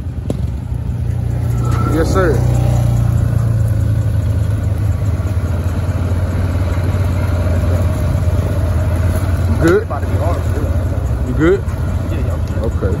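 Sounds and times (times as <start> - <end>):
atv engine droning: 0.0 - 13.0.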